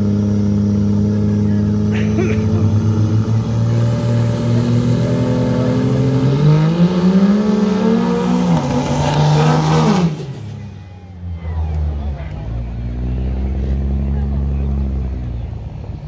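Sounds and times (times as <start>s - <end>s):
pickup truck engines revving: 0.0s - 16.0s.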